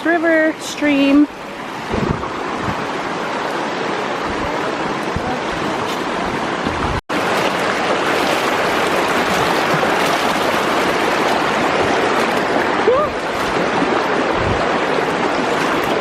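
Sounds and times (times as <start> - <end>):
stream rushing over rocks: 0.2 - 16.0.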